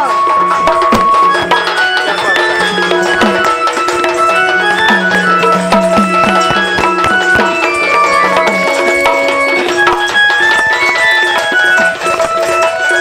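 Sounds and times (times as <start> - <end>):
folk music melody: 0.0 - 13.0
hand drum strokes: 0.0 - 13.0.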